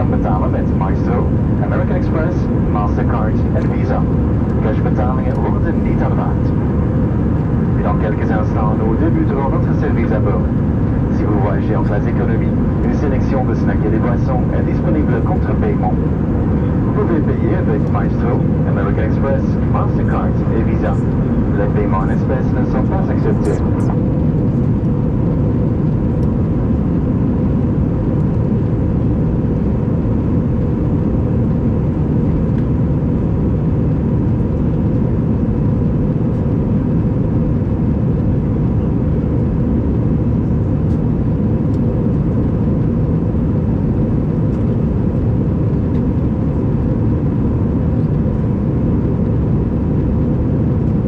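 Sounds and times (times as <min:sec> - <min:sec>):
jet cabin engine rumble: 0:00.0 - 0:51.0.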